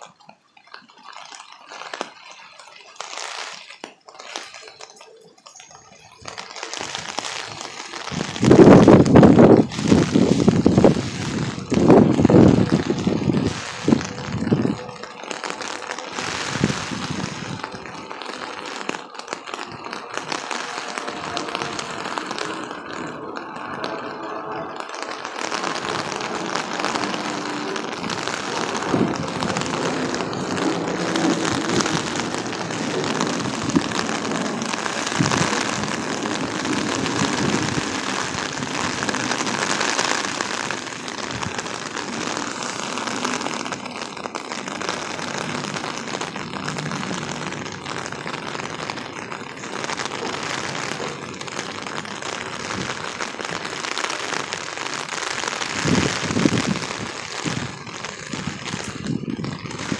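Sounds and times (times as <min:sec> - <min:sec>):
heavy rain pouring on pavement: 0:00.0 - 0:59.9.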